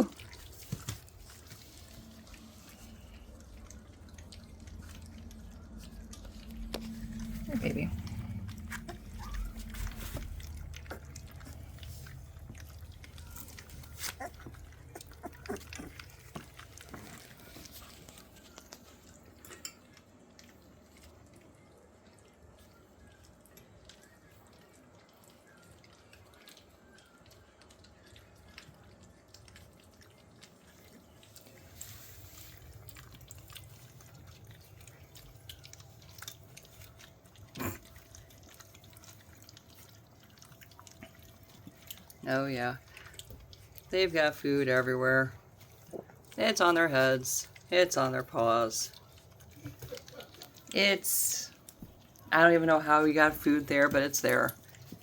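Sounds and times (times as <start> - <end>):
puppies lapping wet food: 0.0 - 55.0.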